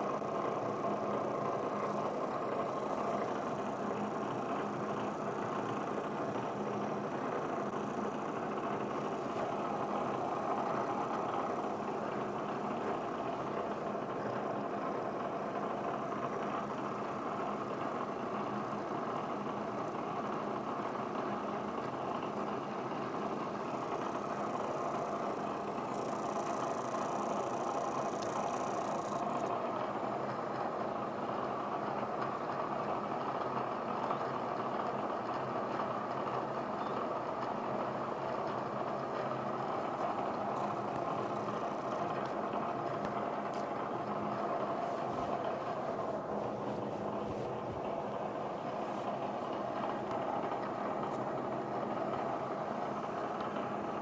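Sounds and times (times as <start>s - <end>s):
milling machine running: 0.0s - 54.0s.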